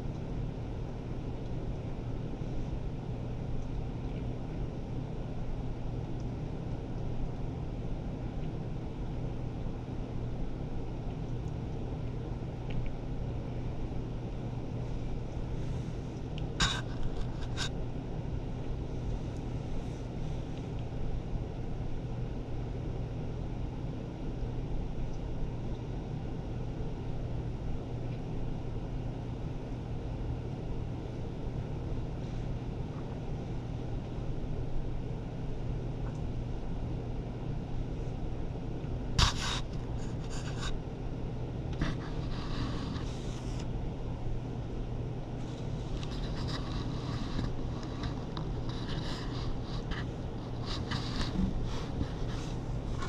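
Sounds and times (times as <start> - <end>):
low mechanical hum: 0.0 - 53.0.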